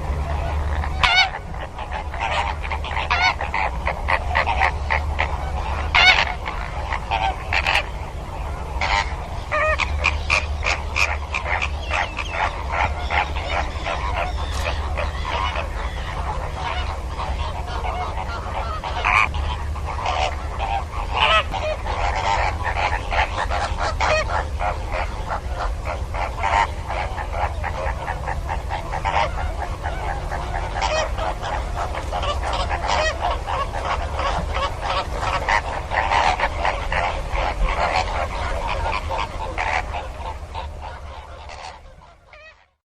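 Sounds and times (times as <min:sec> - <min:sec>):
flamingos honking: 0:00.0 - 0:42.8
steady low hum: 0:00.0 - 0:42.8.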